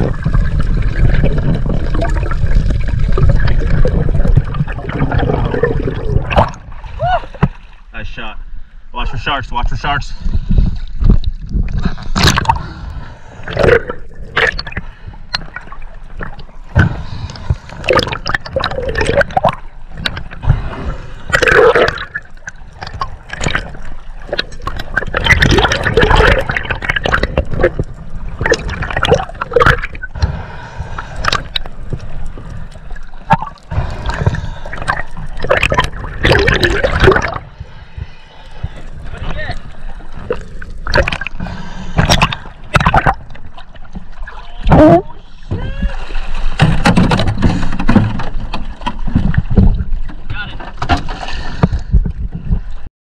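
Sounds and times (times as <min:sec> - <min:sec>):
seawater splashing and gurgling: 0:00.0 - 0:07.9, 0:10.2 - 0:52.9.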